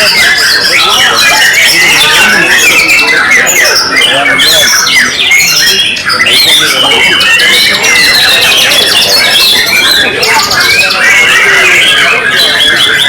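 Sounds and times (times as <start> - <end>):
bird singing whistles and trills: 0.0 - 13.0.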